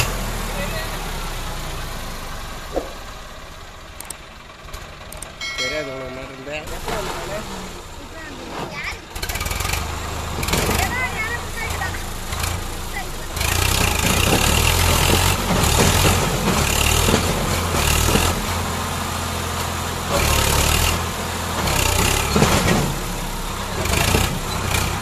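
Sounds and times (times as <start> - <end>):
tractor diesel engine revving: 0.0 - 25.0.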